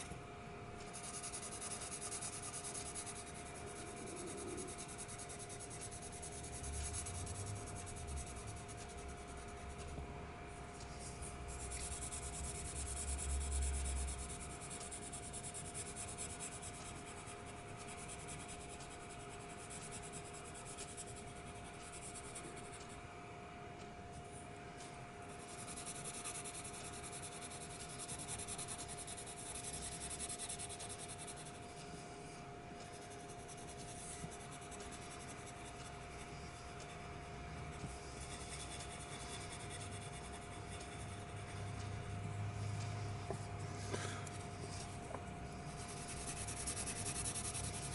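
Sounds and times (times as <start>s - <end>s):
faint steady hum: 0.0s - 47.9s
colored pencil scratching paper: 0.8s - 10.0s, 10.6s - 23.0s, 24.8s - 32.1s, 32.8s - 47.9s.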